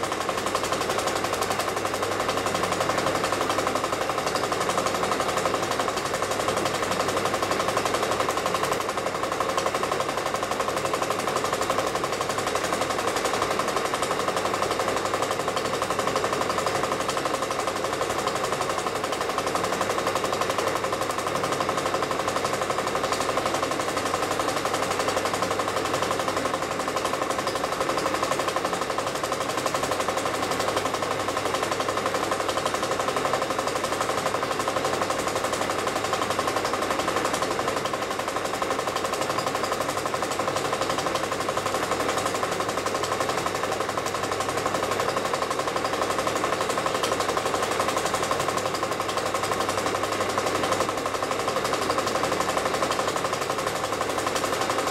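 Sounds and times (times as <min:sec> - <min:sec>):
film projector clatter: 0:00.0 - 0:54.9.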